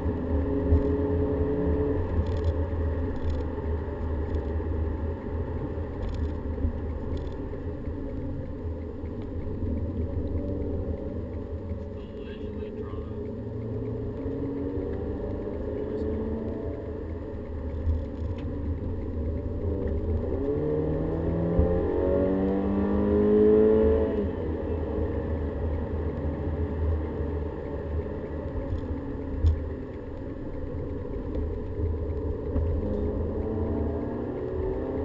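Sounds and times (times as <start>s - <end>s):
car engine accelerating: 0.0s - 35.0s
low road rumble: 0.0s - 35.0s.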